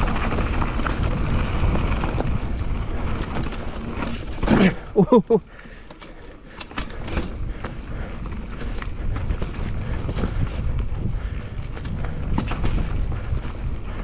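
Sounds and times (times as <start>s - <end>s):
bike knocking and rattling: 0.0s - 14.0s
bike tyres rumbling over ground: 0.0s - 14.0s.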